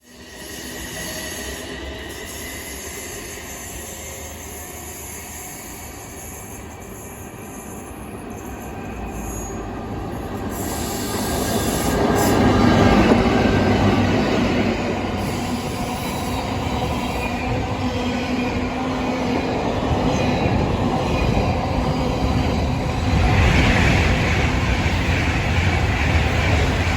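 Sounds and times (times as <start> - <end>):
train wheels rumbling on rails: 0.1 - 26.9.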